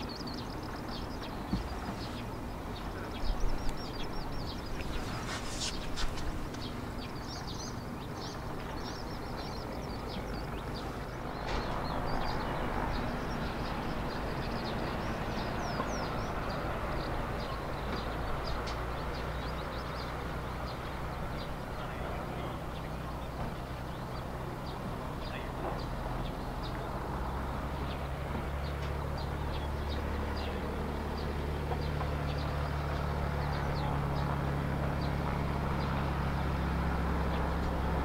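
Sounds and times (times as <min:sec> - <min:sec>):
propeller plane engine taxiing: 0:00.0 - 0:38.0
small birds chirping: 0:00.0 - 0:38.0.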